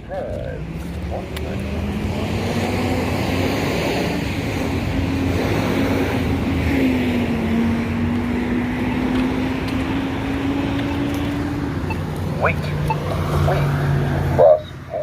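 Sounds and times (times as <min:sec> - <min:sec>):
tyre and road noise: 0:00.0 - 0:15.0
vehicle engine passing: 0:00.0 - 0:15.0.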